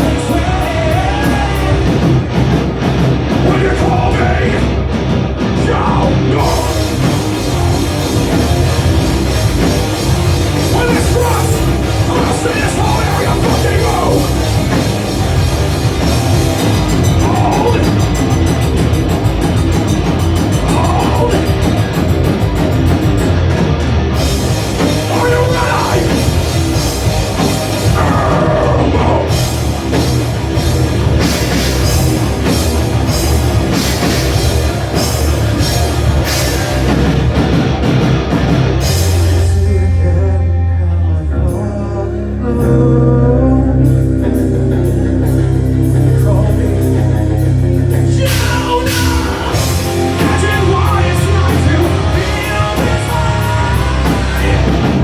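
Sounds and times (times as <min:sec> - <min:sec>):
heavy rock band playing: 0:00.0 - 0:55.0.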